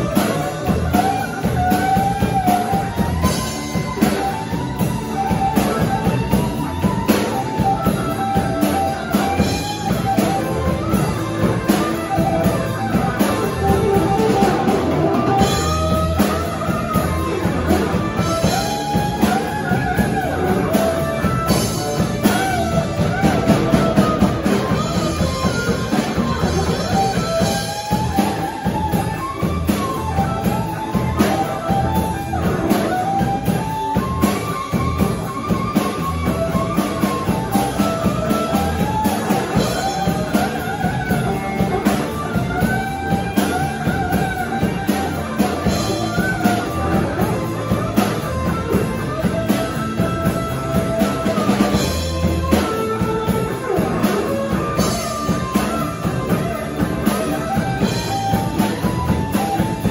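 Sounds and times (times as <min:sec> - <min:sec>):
bass guitar: 0:00.0 - 0:59.9
drum beat: 0:00.0 - 0:59.9
electric guitar: 0:00.0 - 0:59.9
keyboard: 0:00.0 - 0:59.9.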